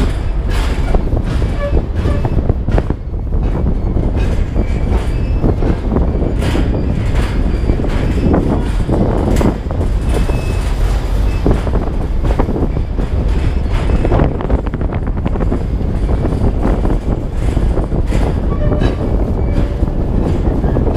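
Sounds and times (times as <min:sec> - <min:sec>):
train knocks and clanks: 0:00.0 - 0:20.9
train wheels rumbling on rail: 0:00.0 - 0:20.9.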